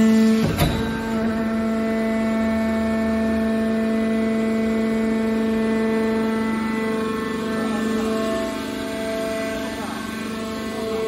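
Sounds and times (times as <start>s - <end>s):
hydraulic pump motor humming: 0.0s - 11.0s.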